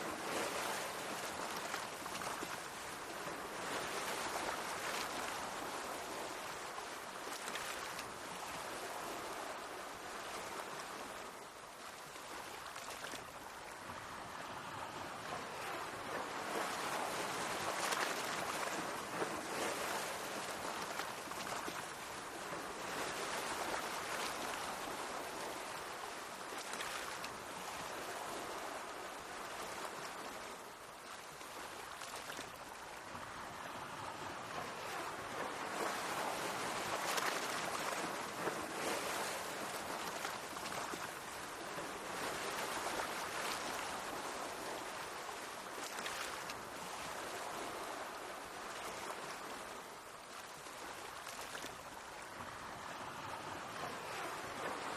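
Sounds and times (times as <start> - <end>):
sea waves washing in: 0.0 - 54.9
waves splashing: 0.0 - 54.9.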